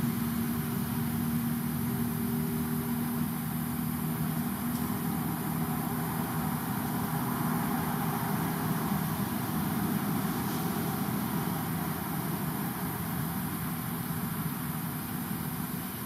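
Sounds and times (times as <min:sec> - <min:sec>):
constant hiss: 0:00.0 - 0:16.0
engine idling hum: 0:00.0 - 0:16.0.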